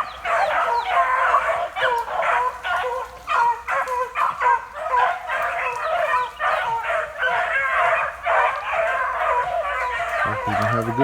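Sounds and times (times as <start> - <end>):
hounds baying: 0.0 - 11.0.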